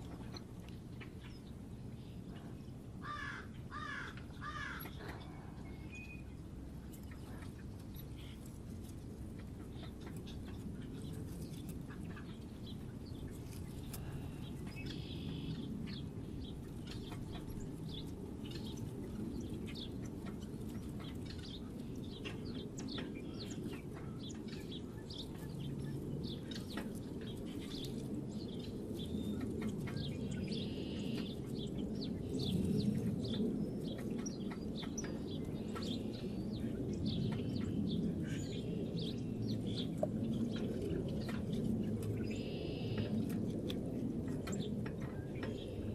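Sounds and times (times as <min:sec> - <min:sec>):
low steady rumble: 0:00.0 - 0:45.9
small birds chirping: 0:00.0 - 0:45.9.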